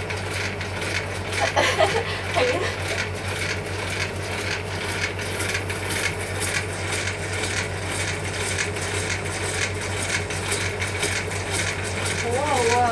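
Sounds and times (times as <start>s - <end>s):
electric motor hum: 0.0s - 12.9s.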